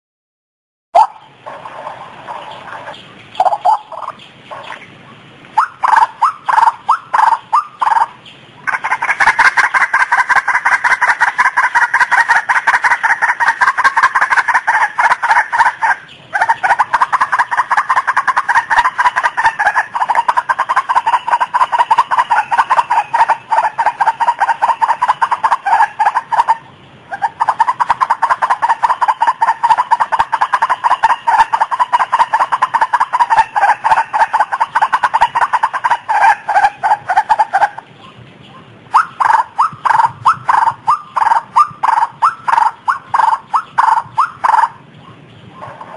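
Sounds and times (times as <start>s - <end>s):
waterhen calling: 1.0s - 45.9s.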